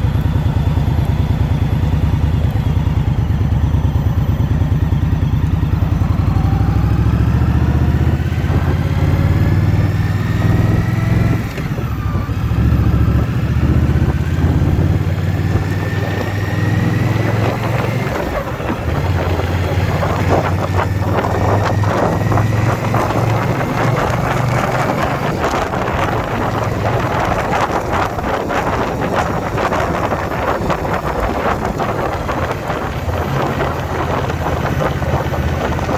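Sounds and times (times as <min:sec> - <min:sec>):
motorcycle engine accelerating: 0:00.0 - 0:35.9
wind buffeting on microphone: 0:05.6 - 0:35.9.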